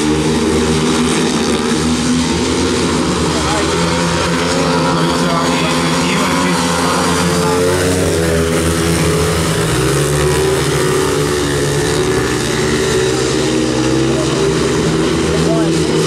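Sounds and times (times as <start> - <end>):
motorcycles racing: 0.0 - 16.0.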